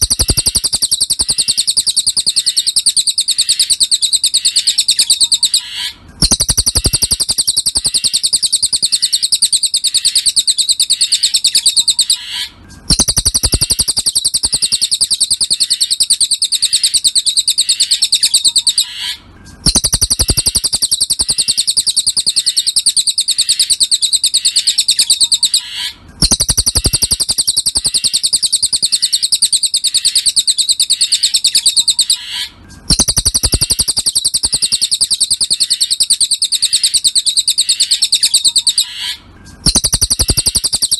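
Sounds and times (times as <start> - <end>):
songbird trilling: 0.0 - 40.9.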